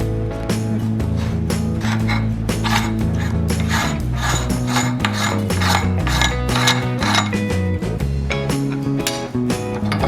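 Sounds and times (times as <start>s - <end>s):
background music with bass and beat: 0.0s - 10.0s.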